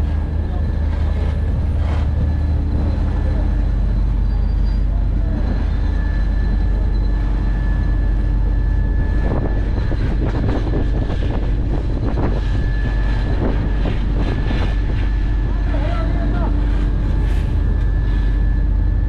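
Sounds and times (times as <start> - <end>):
diesel engine hum: 0.0 - 19.0
high whine: 0.0 - 19.0.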